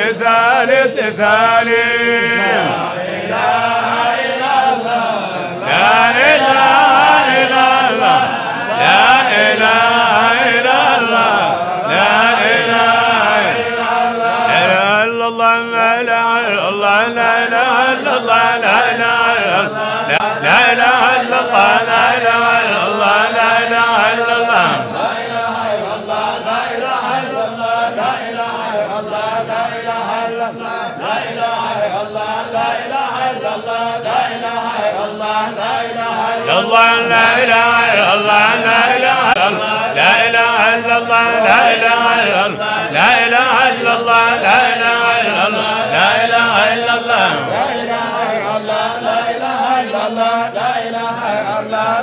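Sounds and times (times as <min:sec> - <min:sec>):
men chanting in unison: 0:00.0 - 0:52.0.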